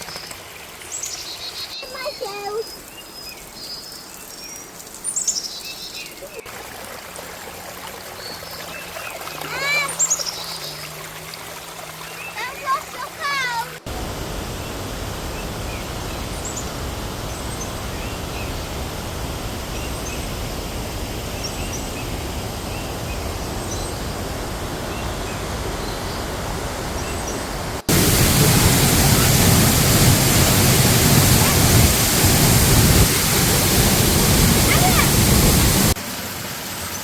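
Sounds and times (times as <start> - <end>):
waterfall rushing: 6.4 - 37.0.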